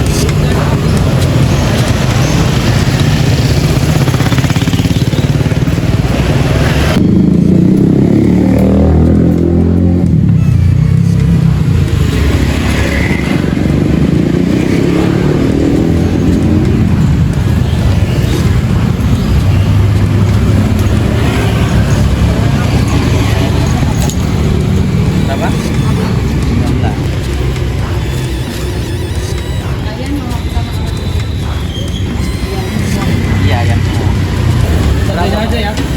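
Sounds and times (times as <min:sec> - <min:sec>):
motorcycle engines in traffic: 0:00.0 - 0:35.9.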